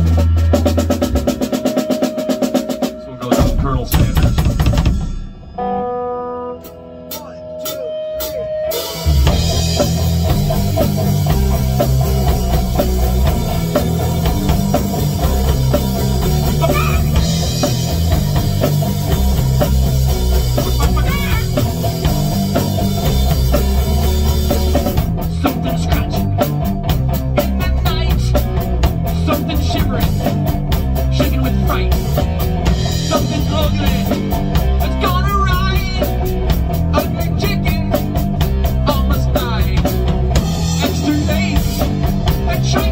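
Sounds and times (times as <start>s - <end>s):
rapid drum hits: 0.0s - 5.5s, 9.0s - 42.9s
rock band playing live: 0.0s - 42.9s.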